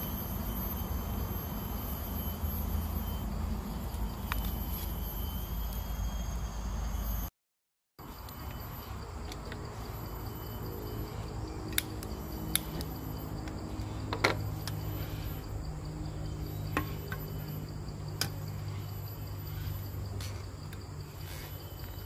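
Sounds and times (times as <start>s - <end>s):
crickets chirping: 0.0s - 7.3s, 8.0s - 22.0s
low hum: 0.0s - 7.3s, 8.0s - 22.0s.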